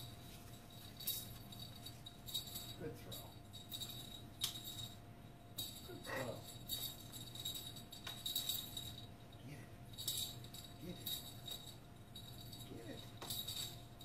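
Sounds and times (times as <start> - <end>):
rattle toy bells jingling: 0.0 - 14.0.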